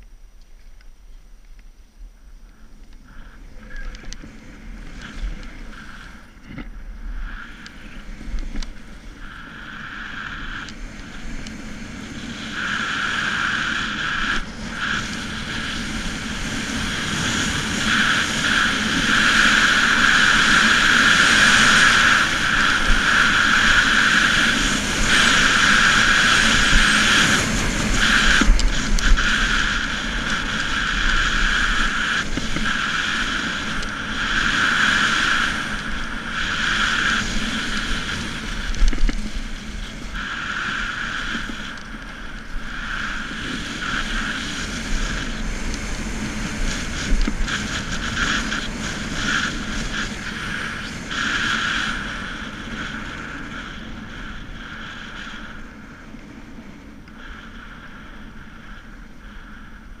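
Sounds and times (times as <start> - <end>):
wind rumbling on microphone: 0.0 - 60.0
skis scraping on packed snow: 3.2 - 57.8.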